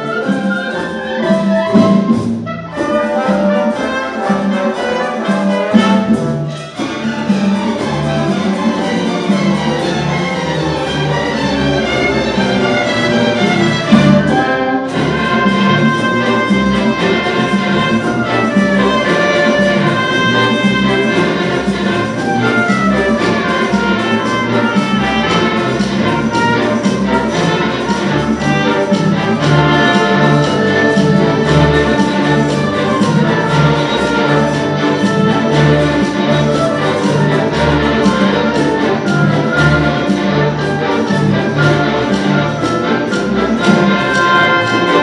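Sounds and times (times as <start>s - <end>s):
string orchestra playing: 0.0s - 45.0s.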